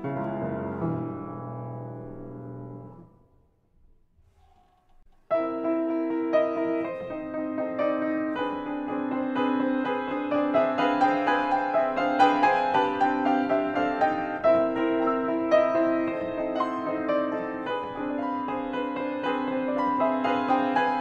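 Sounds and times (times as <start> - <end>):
piano music: 0.0 - 3.4, 5.2 - 21.0.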